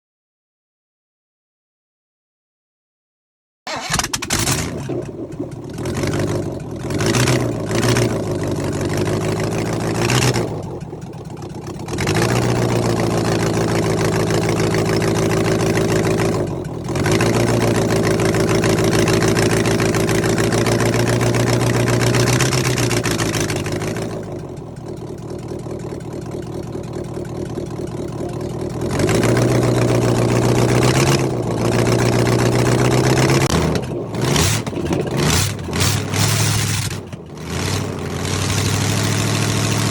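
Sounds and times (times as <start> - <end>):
engine revving: 3.7 - 26.0, 27.2 - 39.9.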